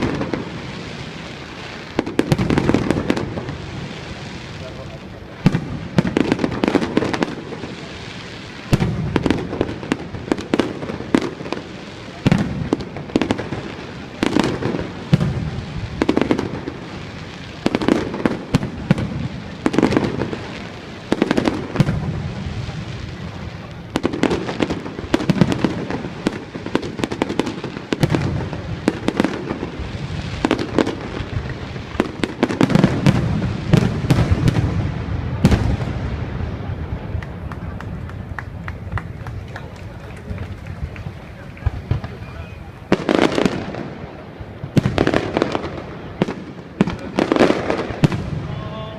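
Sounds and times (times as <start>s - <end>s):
fireworks bangs and booms: 0.0s - 48.9s
fireworks crackling: 0.0s - 48.9s.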